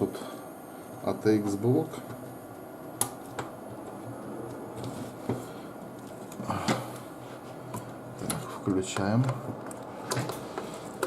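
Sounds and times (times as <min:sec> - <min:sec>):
steady background whir: 0:00.0 - 0:11.0.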